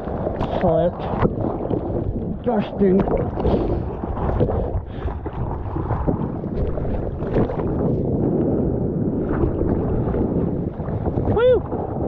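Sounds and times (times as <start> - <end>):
water sloshing and splashing: 0.0 - 12.0
wind buffeting microphone: 0.0 - 12.0.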